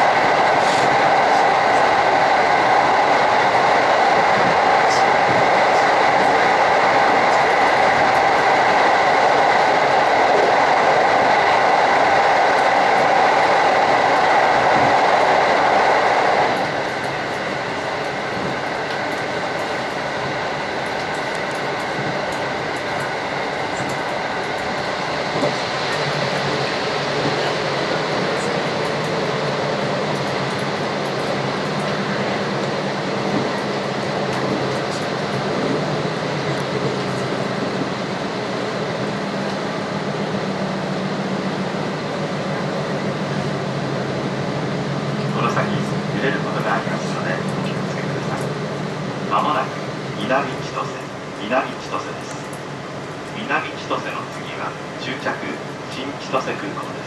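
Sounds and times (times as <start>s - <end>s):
electric train running: 0.0s - 57.0s.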